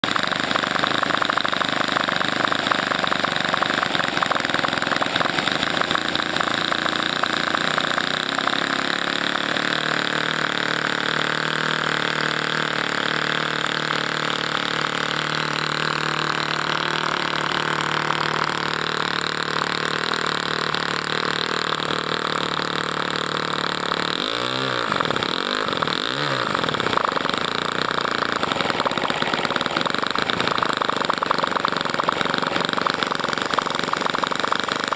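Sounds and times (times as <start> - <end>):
engine throttle blips: 0.0 - 34.9
model glow engine running: 0.0 - 34.9.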